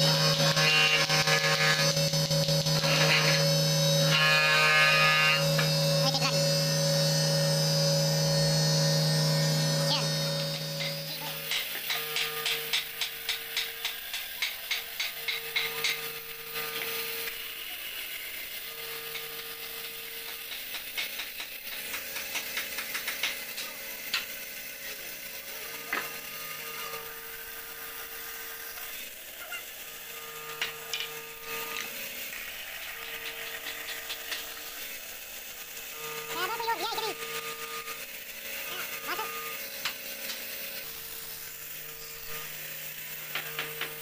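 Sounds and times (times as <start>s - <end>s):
bandsaw cutting wood: 0.0s - 44.0s
steady hum: 0.0s - 44.0s.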